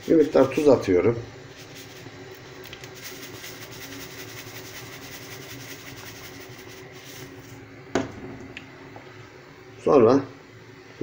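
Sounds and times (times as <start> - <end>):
gas burner hum: 0.0 - 11.0.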